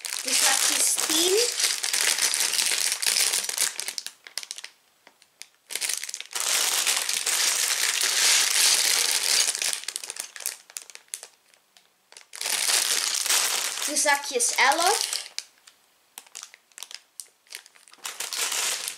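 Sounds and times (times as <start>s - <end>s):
plastic bags crinkling: 0.0s - 18.9s.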